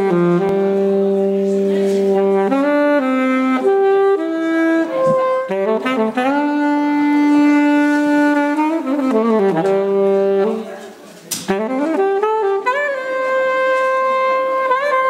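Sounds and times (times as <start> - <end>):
alto saxophone melody: 0.0 - 15.0.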